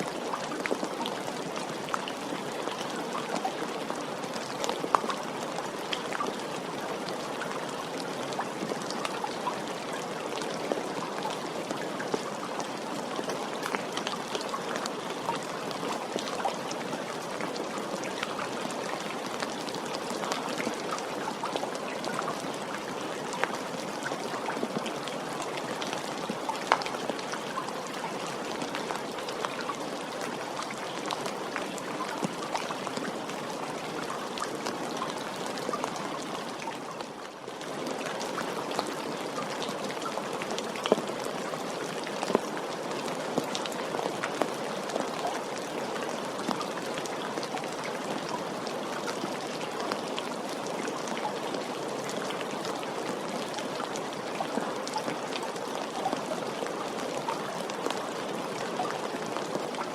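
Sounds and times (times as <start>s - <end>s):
raindrops ticking nearby: 0.0s - 59.9s
steady rain falling: 0.0s - 59.9s.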